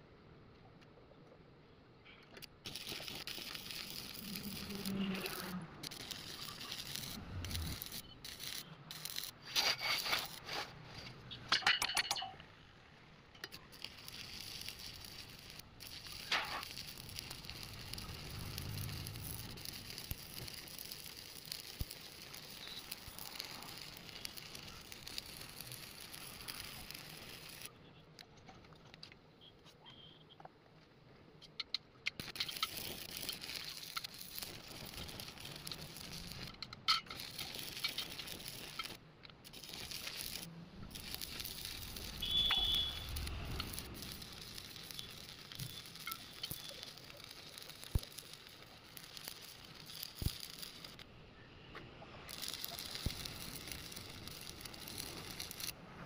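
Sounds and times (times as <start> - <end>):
arc welding crackling hiss: 2.5 - 12.2, 12.9 - 27.7, 32.1 - 51.1, 52.2 - 56.0.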